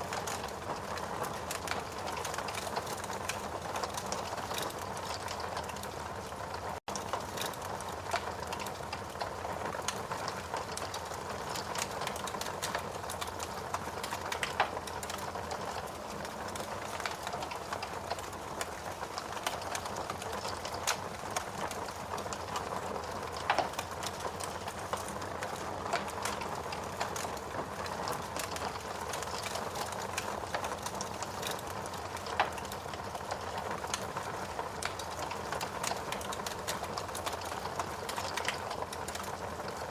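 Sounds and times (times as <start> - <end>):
steady rain hiss: 0.0 - 39.9
wood fire crackling and popping: 0.0 - 39.9.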